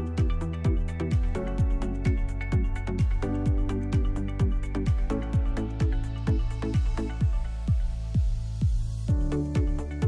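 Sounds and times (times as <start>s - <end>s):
electronic music: 0.0s - 10.0s
kick drum beat: 0.0s - 10.0s.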